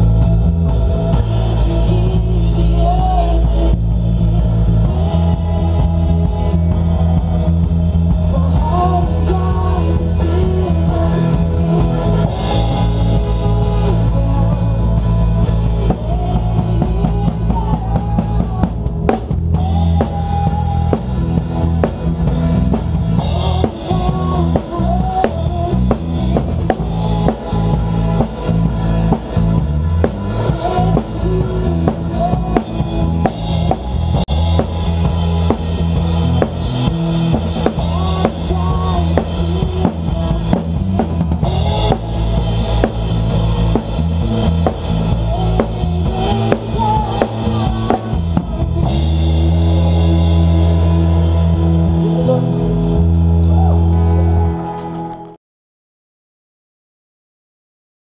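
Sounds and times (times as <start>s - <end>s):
live band playing: 0.0s - 55.4s.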